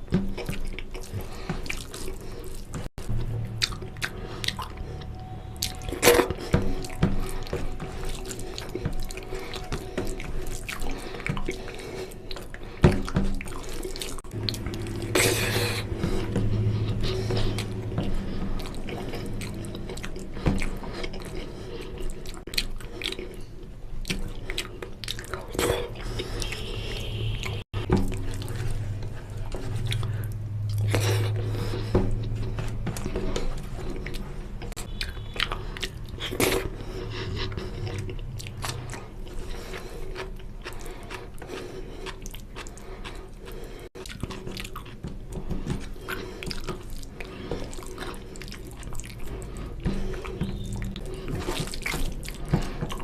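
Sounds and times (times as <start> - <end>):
low steady hum: 0.0 - 53.0
wet chewing and lip smacks: 0.0 - 53.0.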